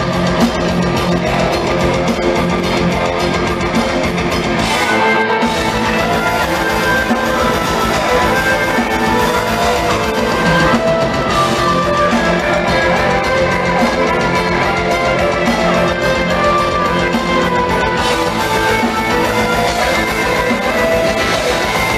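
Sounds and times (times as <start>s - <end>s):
distorted electric guitars: 0.0s - 21.9s
fast drums: 0.0s - 21.9s
melodic violin line: 0.0s - 21.9s.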